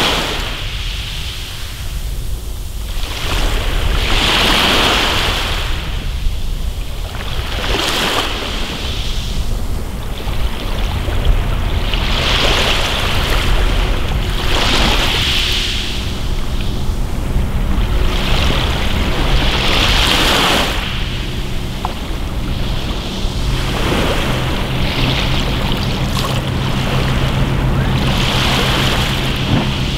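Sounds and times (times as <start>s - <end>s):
steady low rumble: 0.5s - 4.6s, 5.4s - 29.9s.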